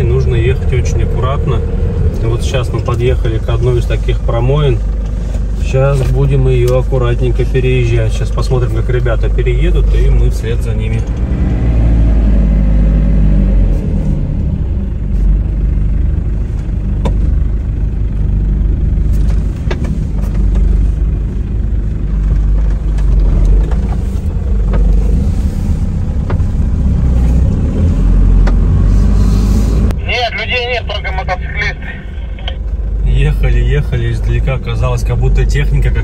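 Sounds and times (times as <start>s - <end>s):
off-road vehicle engine rumbling: 0.0s - 36.0s.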